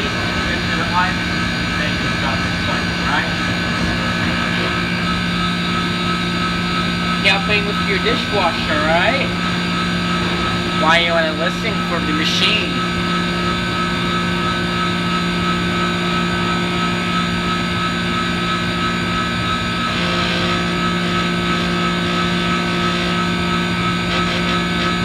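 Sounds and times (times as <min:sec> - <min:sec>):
high-pitched whine: 0:00.0 - 0:25.0
ice machine humming: 0:00.0 - 0:25.0.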